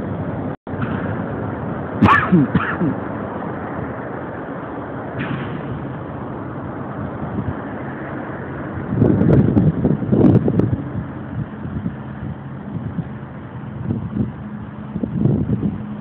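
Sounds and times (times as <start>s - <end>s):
boat engine rumble: 0.0s - 16.0s
wind on microphone: 0.0s - 16.0s.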